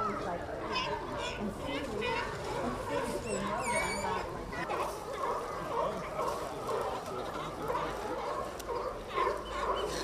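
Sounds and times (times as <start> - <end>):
sea lions barking: 0.2 - 10.0.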